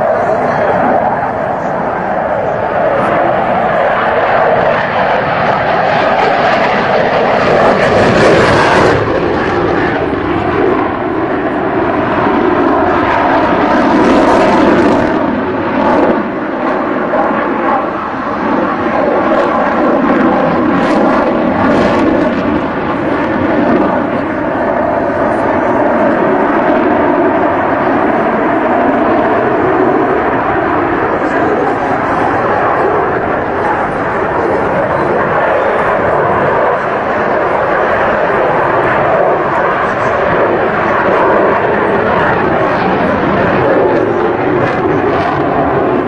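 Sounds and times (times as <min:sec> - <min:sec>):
jet engines flying overhead: 0:00.0 - 0:46.0.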